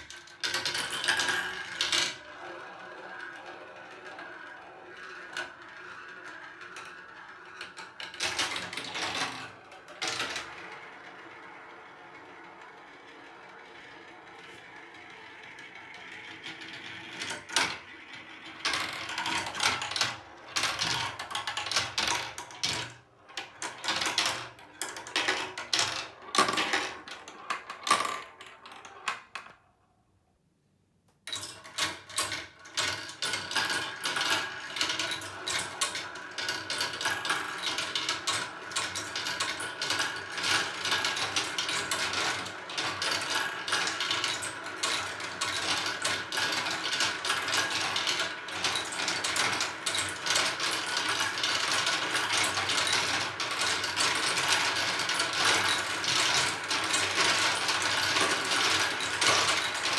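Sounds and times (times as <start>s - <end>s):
plastic balls clattering through marble run: 0.0s - 29.7s, 31.2s - 59.9s.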